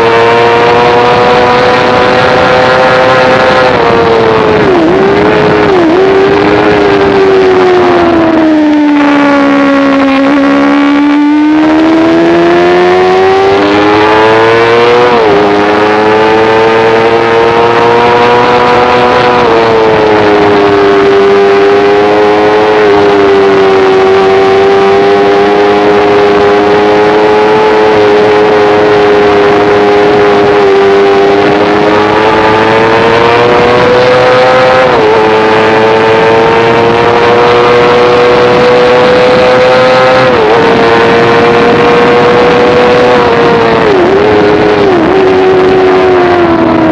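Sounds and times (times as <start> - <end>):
motorcycle engine revving high: 0.0 - 46.9.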